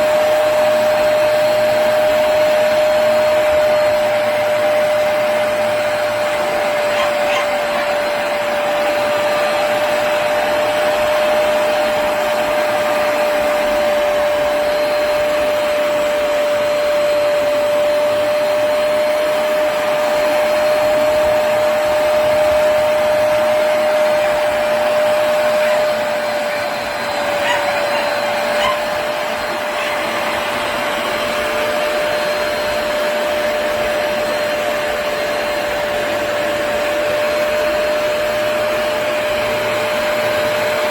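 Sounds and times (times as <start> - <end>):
carpet cleaner motor and suction: 0.0 - 40.9
steady whining tone: 0.0 - 40.9.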